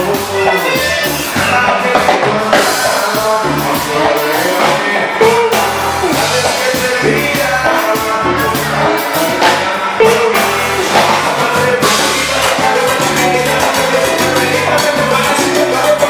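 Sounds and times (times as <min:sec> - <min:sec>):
drum beat: 0:00.0 - 0:16.0
electric guitars: 0:00.0 - 0:16.0
man singing: 0:00.0 - 0:16.0.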